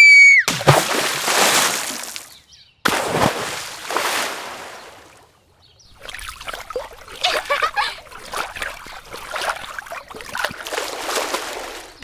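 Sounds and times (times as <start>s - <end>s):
doll splashing into water: 0.5s - 2.3s, 2.9s - 5.2s, 6.0s - 12.0s.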